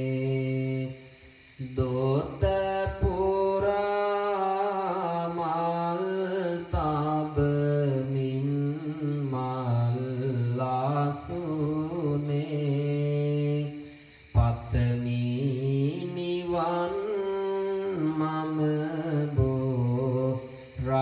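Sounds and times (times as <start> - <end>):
monk chanting: 0.0 - 1.0, 1.6 - 21.0.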